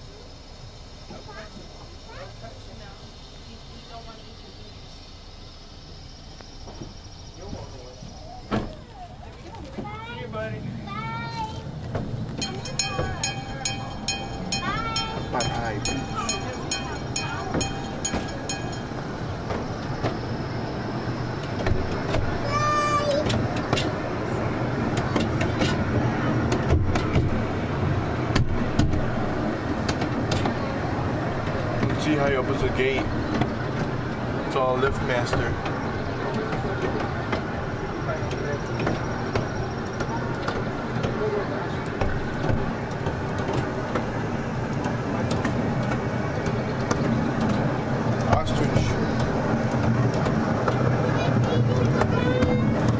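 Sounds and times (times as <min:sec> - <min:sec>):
ride train rumbling: 0:00.0 - 0:52.9.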